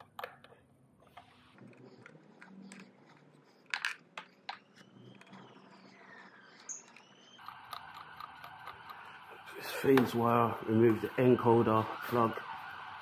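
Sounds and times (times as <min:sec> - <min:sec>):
distant siren: 0:01.2 - 0:13.0.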